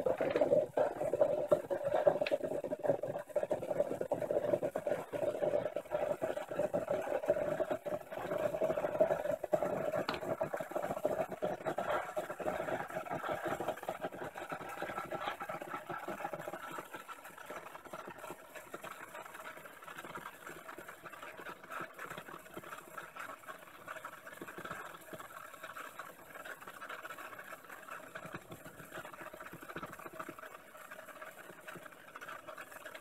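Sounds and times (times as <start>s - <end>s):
water boiling and bubbling: 0.0s - 33.0s.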